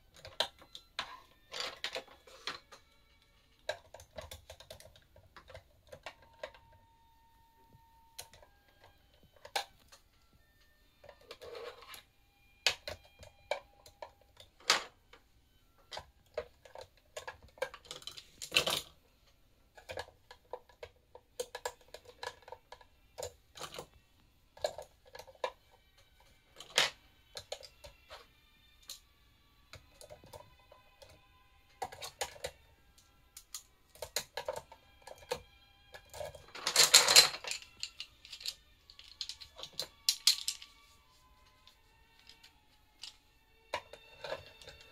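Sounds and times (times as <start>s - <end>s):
pens and pencils clattering: 0.0s - 7.0s, 7.6s - 10.1s, 11.0s - 29.0s, 29.7s - 44.9s.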